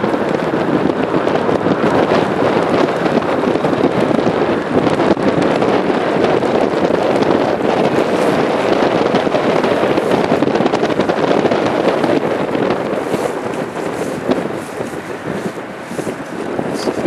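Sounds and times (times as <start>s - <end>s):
jet airliner engine: 0.0s - 17.0s
wind buffeting microphone: 0.0s - 17.0s.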